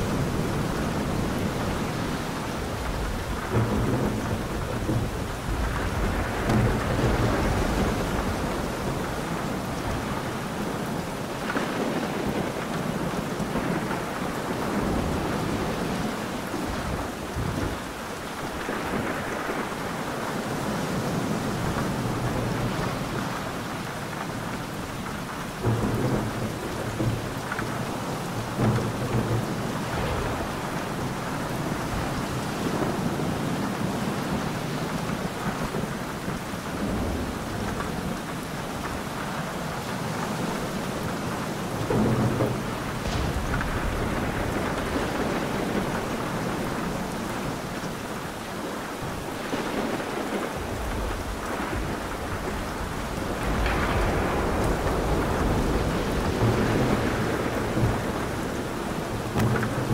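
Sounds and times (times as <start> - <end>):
rolling thunder: 0.0 - 59.9
steady rain: 0.0 - 59.9.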